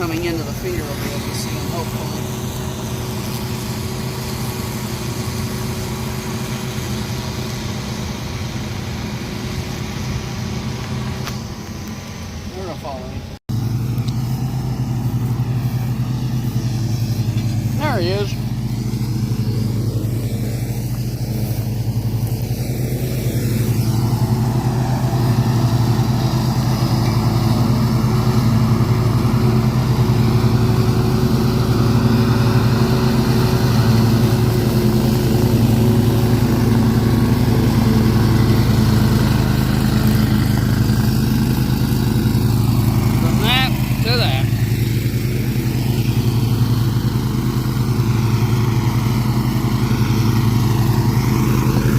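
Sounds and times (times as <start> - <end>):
mower engine running: 0.0 - 51.9.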